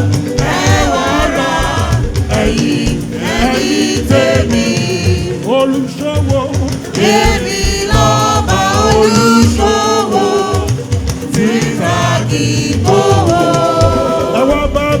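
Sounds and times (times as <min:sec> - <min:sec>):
call and response church singing: 0:00.0 - 0:15.0
instruments with low beat: 0:00.0 - 0:15.0.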